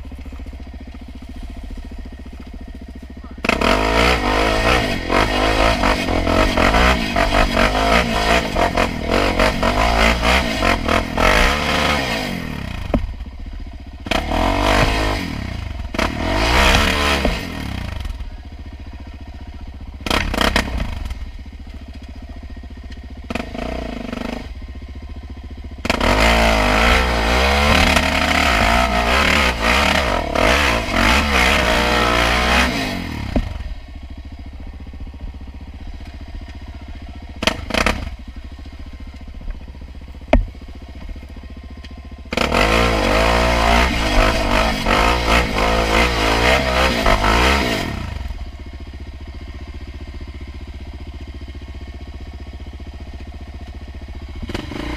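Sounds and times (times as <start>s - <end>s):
quad engine revving: 0.0s - 21.4s, 22.9s - 24.6s, 25.8s - 49.1s, 53.8s - 54.9s.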